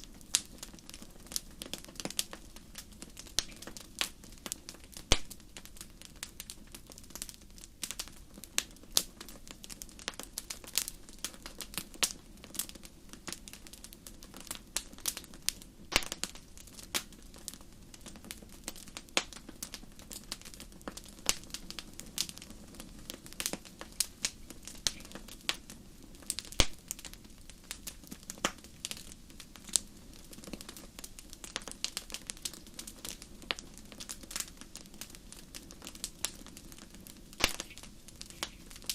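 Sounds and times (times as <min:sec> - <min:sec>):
hiss of burning: 0:00.0 - 0:38.9
wood fire crackling: 0:00.0 - 0:38.9.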